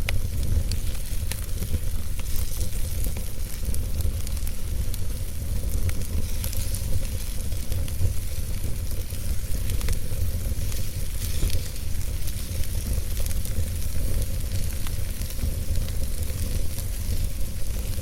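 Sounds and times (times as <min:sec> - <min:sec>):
logs crackling and popping: 0:00.0 - 0:18.0
low rumble of fire: 0:00.0 - 0:18.0.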